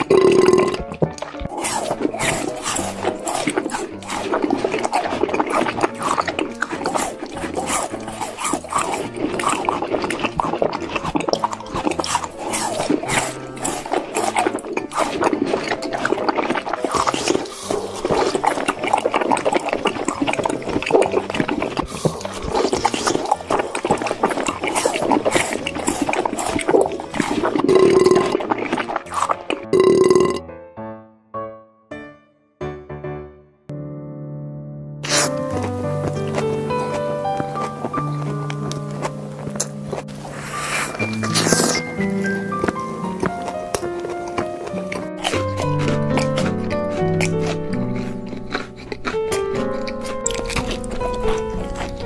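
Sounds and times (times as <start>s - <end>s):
mouth clicks and smacks: 0.0s - 30.3s, 35.0s - 52.0s
wet chewing and crunching: 0.0s - 30.4s, 35.0s - 52.0s.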